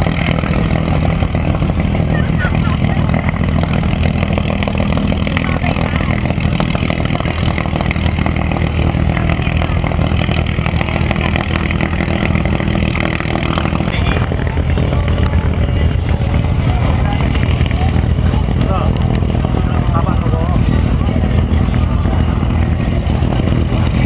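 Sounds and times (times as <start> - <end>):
plane piston engines idling: 0.0 - 24.0.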